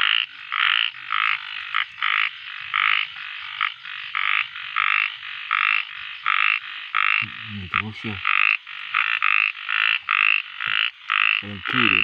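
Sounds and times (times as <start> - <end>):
frog croaking: 0.0 - 12.0.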